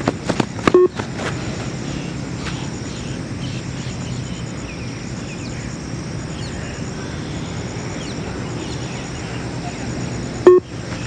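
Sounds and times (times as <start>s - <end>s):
faint high pulsing sound: 0.6s - 11.0s
small birds chirping: 1.8s - 11.0s.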